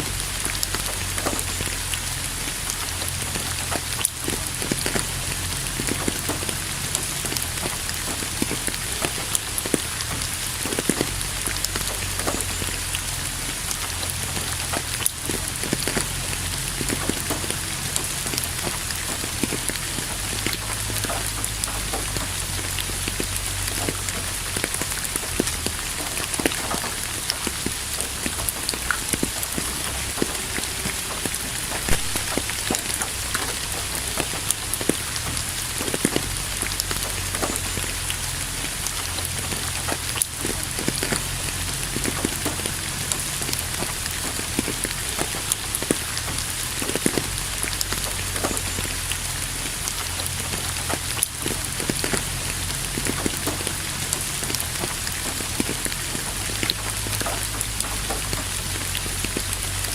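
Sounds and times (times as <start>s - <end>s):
raindrops striking hard nearby: 0.0s - 59.9s
steady rain falling: 0.0s - 59.9s.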